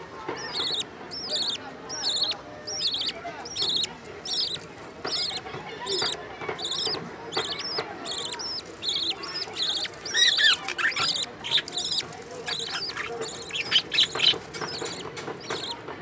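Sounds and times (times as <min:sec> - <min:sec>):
baby birds cheeping: 0:00.0 - 0:15.9.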